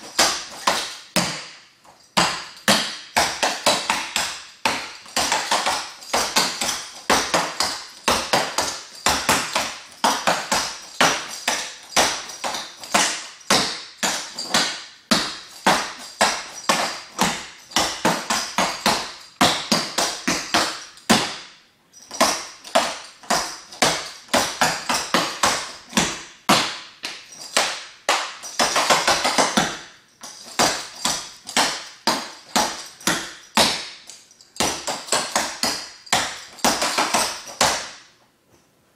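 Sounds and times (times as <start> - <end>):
tap shoes clicking on tile floor: 0.0 - 21.4, 22.0 - 38.0.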